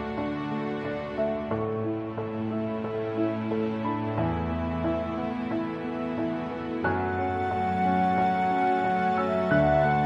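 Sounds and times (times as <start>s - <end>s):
soft gentle background music: 0.0s - 10.0s.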